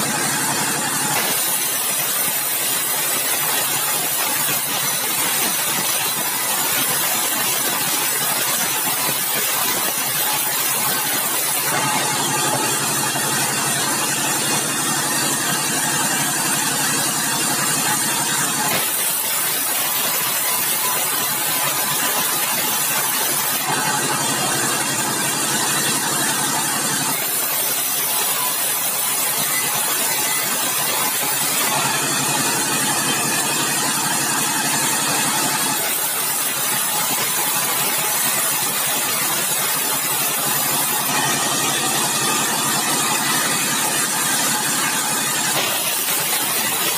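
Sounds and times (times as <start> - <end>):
band saw cutting wood: 0.0 - 46.9.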